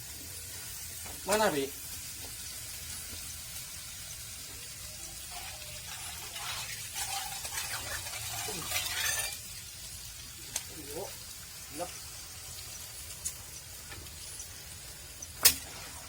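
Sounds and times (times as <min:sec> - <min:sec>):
meat sizzling while frying: 0:00.0 - 0:16.0.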